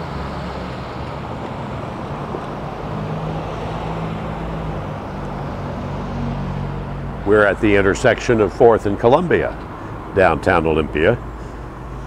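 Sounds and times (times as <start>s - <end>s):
hum of traffic: 0.0s - 12.0s
low engine drone: 0.0s - 12.0s.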